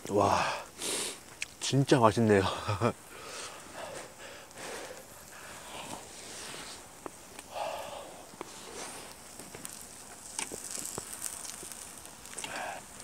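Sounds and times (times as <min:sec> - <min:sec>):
beef sizzling on hot stone: 0:00.1 - 0:13.0.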